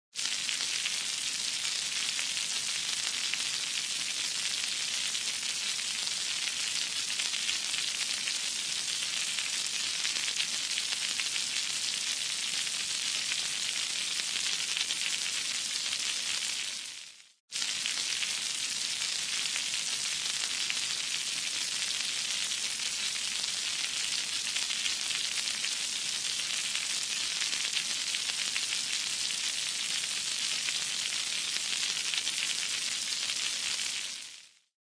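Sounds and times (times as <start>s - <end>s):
eggs sizzling in a pan: 0.2s - 34.7s.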